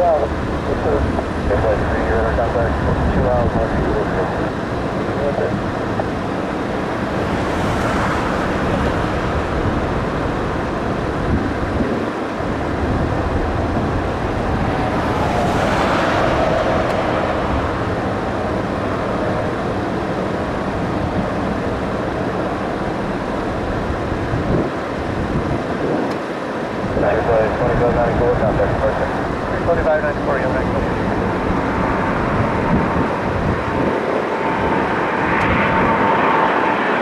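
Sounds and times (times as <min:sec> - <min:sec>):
distant jet airliner rumble: 0:00.0 - 0:37.0
wind noise on microphone: 0:00.0 - 0:37.0.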